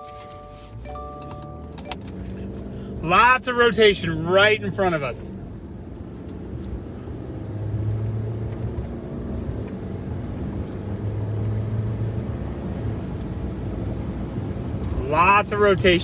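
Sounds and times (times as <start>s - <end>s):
vehicle road and engine rumble: 0.0s - 16.0s.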